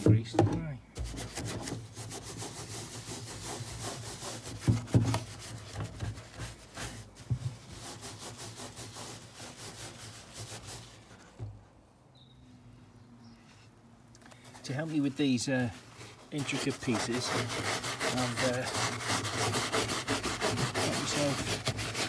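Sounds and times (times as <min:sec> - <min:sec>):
scrub brush scrubbing plastic: 0:01.0 - 0:11.3, 0:14.5 - 0:22.0.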